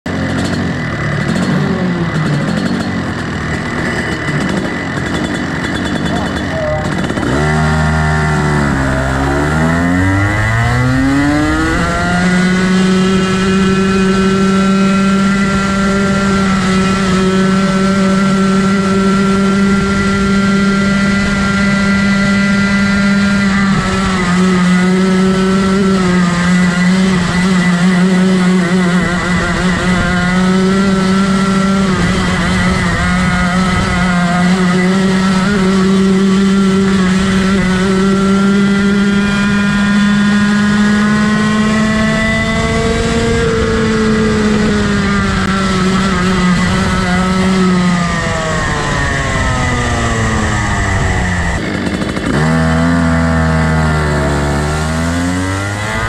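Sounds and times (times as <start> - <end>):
kart engine accelerating: 0.1 - 56.0.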